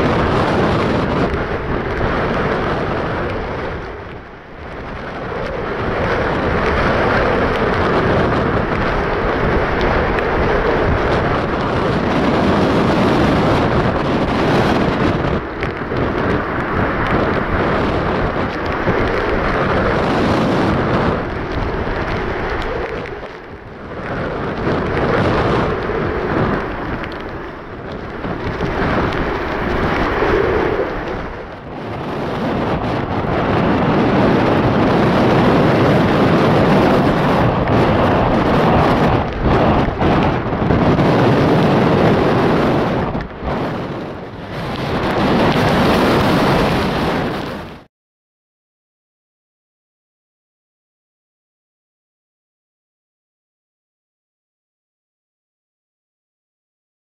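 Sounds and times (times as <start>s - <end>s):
jet engines rumbling: 0.0s - 47.9s
wind buffeting the microphone: 0.0s - 47.9s.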